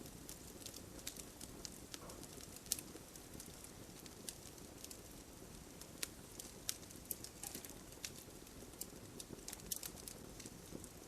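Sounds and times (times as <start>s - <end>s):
campfire crackling: 0.0s - 11.0s
fire hiss: 0.0s - 11.0s.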